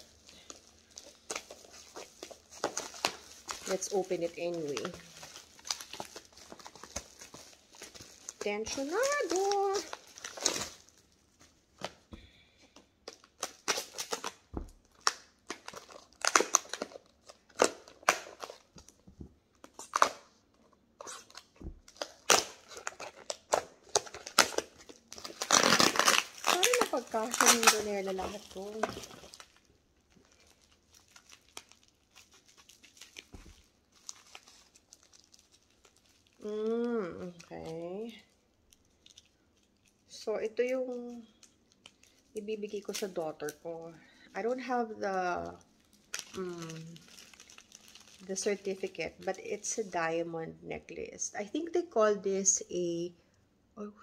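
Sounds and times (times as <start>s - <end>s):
plastic packaging crinkling: 0.0s - 50.0s.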